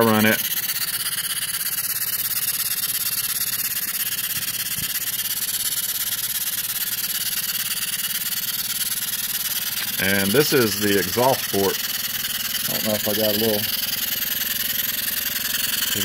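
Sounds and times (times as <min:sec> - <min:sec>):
model steam engine exhaust beats: 0:00.0 - 0:16.0.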